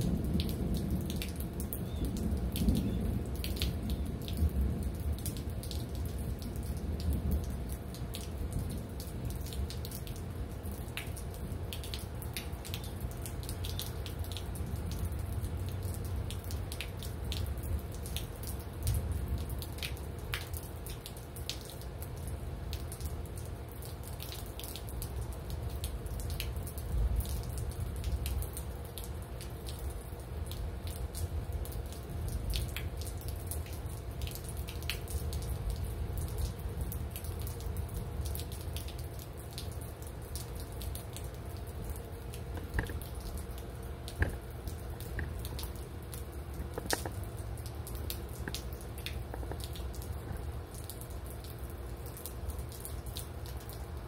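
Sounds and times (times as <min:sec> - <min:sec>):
rain dripping and pattering: 0:00.0 - 0:54.0.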